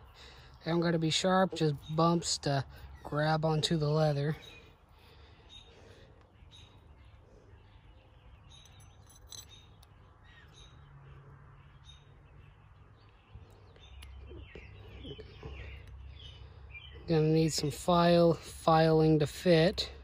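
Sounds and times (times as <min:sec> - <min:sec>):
faint birds calling: 0:00.0 - 0:20.0.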